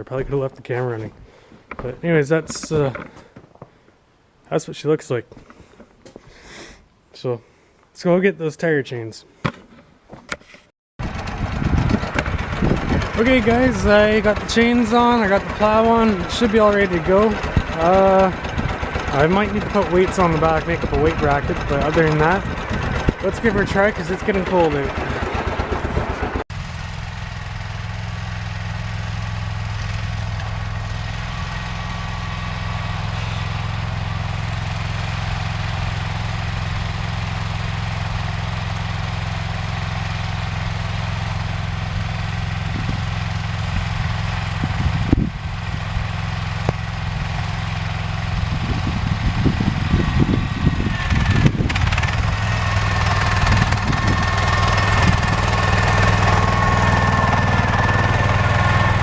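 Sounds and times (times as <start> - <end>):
garden tractor engine running: 0.1 - 3.3, 11.0 - 59.0.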